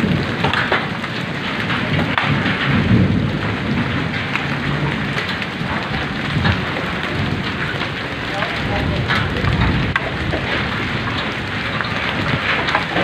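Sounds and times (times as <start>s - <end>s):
hailstones ticking: 0.0s - 13.0s
heavy rain hissing: 0.0s - 13.0s
low rumble: 1.4s - 13.0s.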